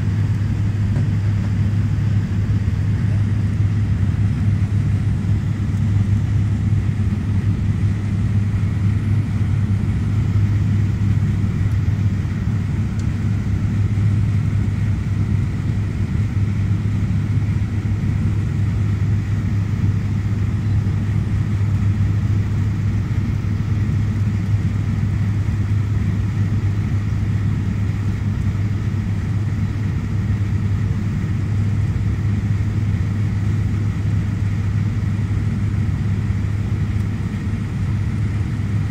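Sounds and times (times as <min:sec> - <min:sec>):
turboprop cabin drone: 0:00.0 - 0:38.9.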